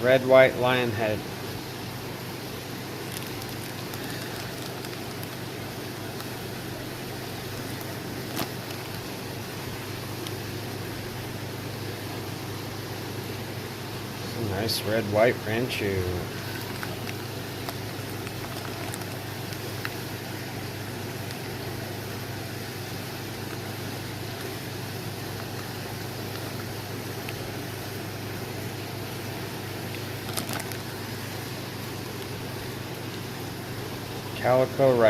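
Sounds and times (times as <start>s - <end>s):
aquarium air pumps bubbling: 0.0s - 34.9s.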